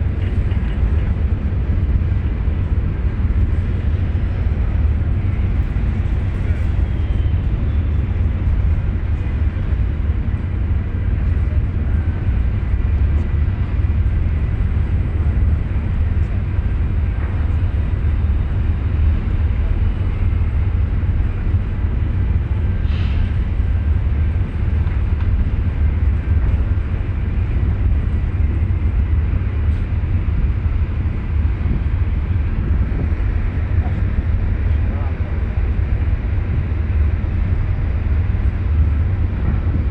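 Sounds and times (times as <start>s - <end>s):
ferry engine low rumble: 0.0s - 39.9s.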